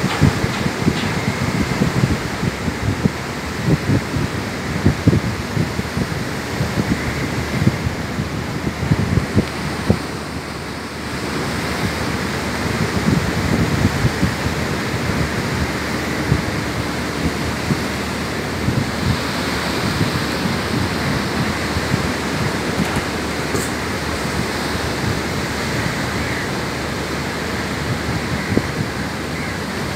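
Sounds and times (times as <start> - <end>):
ocean surf washing on beach: 0.0 - 29.9
wind buffeting microphone: 0.0 - 29.9.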